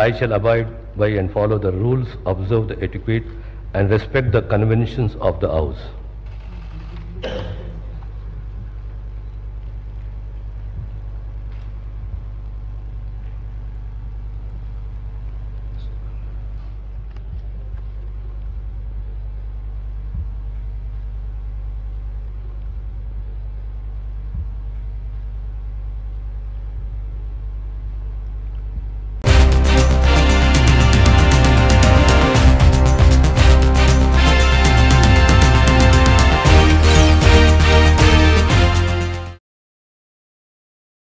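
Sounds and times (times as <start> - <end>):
low hall room hum: 0.0 - 39.3.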